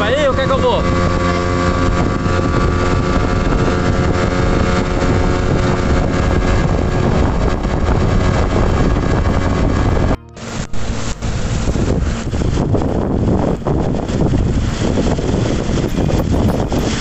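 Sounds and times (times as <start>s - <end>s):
outboard motor running: 0.0s - 17.0s
wind on microphone: 0.0s - 17.0s.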